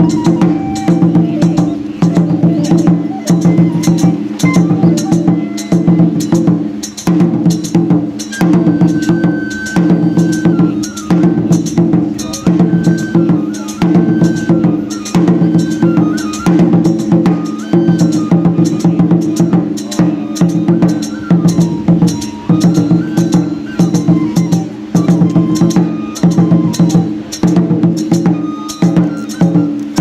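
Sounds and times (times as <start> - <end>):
drum beaten in quick strokes: 0.0 - 30.0
high flute-like melody: 0.0 - 30.0.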